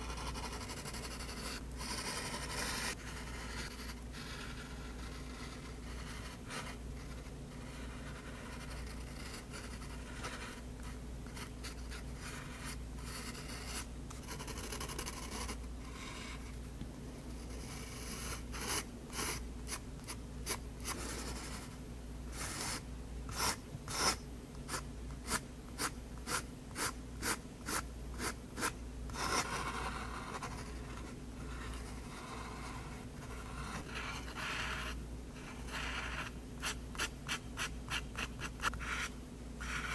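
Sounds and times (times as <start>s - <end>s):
pen scratching on paper: 0.0s - 16.4s, 17.5s - 19.8s, 22.4s - 39.9s.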